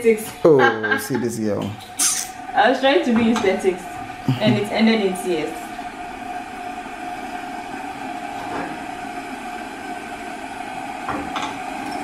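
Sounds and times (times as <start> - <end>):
gas burner hissing: 0.0 - 12.0.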